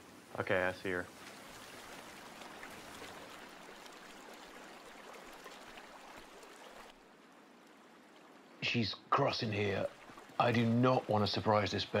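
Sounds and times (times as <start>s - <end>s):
river running over gravel: 0.0s - 12.0s.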